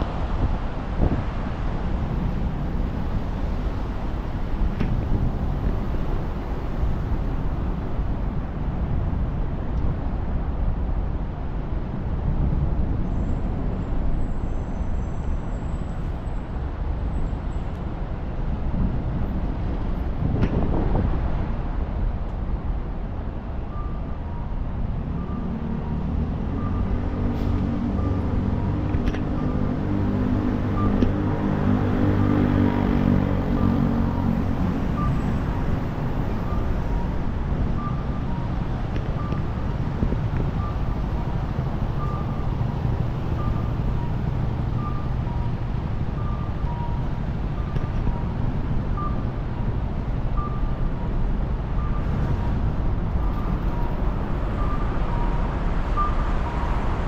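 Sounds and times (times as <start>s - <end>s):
heavy vehicle engine running: 0.0s - 57.0s
road traffic noise: 0.0s - 57.0s.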